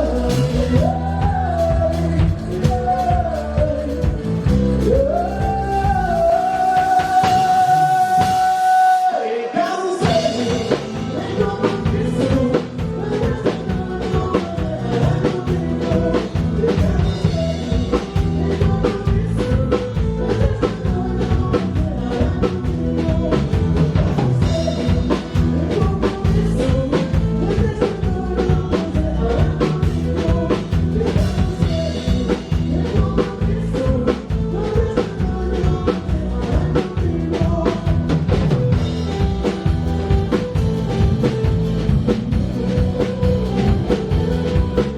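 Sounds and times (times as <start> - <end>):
drum kit beat: 0.0 - 44.9
live band music: 0.0 - 44.9
person singing: 0.0 - 44.9.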